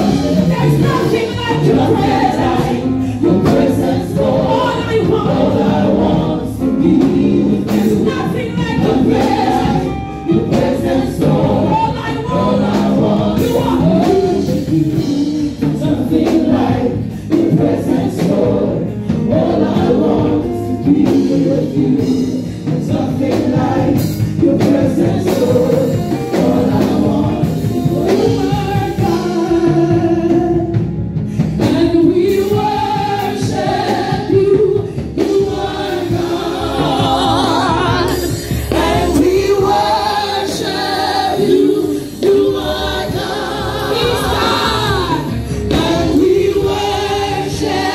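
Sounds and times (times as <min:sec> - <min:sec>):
congregation singing gospel song: 0:00.0 - 0:47.9.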